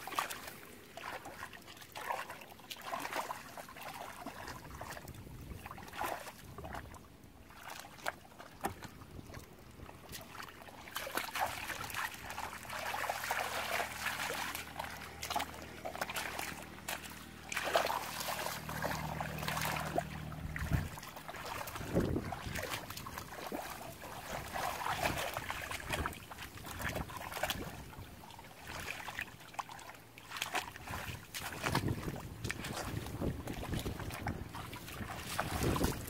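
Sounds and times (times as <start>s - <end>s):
hands sloshing in muddy water: 0.0s - 36.0s
water splashes: 0.0s - 36.0s.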